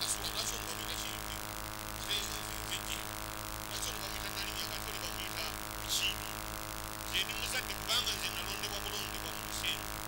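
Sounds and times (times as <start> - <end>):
hum of held tones: 0.0 - 10.0.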